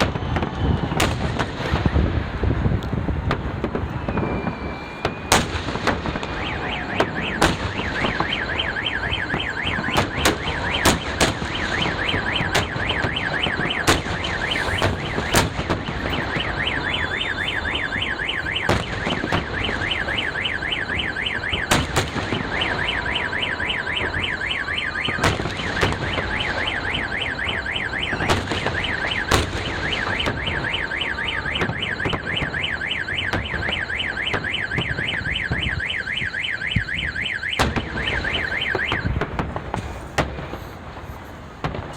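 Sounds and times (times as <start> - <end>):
firework bangs: 0.0 - 41.9
car alarm warbling: 3.7 - 39.4.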